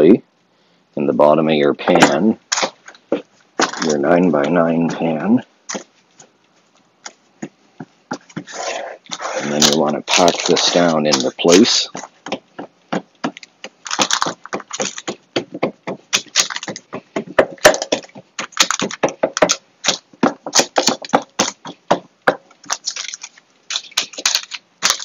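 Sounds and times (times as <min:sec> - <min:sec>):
parchment paper crackling: 0:02.5 - 0:25.0.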